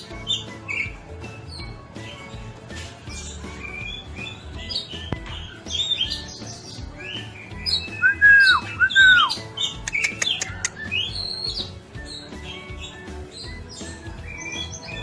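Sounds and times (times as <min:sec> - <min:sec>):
songbird chirping and whistling: 0:00.0 - 0:15.0.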